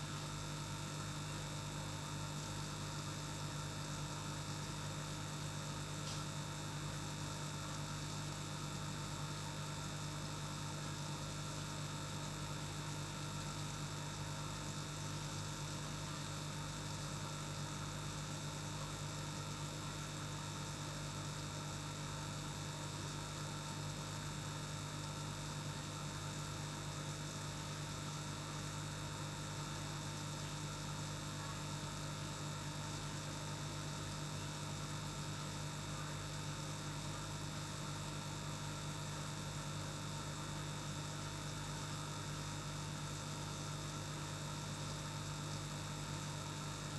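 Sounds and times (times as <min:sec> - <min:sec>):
aquarium air pump humming: 0:00.0 - 0:46.9.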